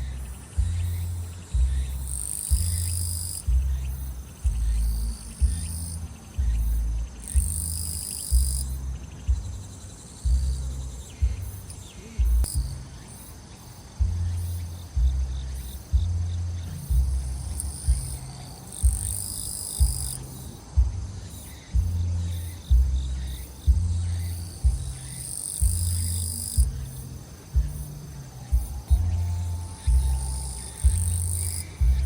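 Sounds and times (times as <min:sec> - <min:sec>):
thumping bass music: 0:00.0 - 0:13.1, 0:14.0 - 0:32.0
crickets and grass insects: 0:00.0 - 0:32.0.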